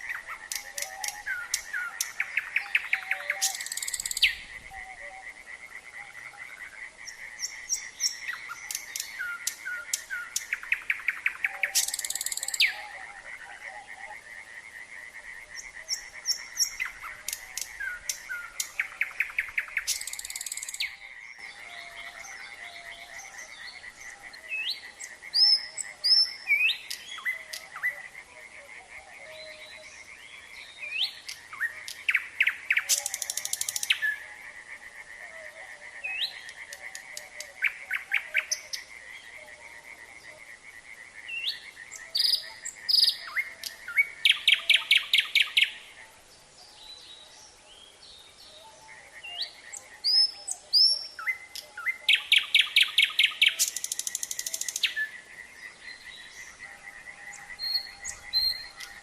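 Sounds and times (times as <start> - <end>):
nightingale singing: 0.0 - 14.2, 15.4 - 59.0
frogs trilling: 0.0 - 46.2, 48.4 - 59.0.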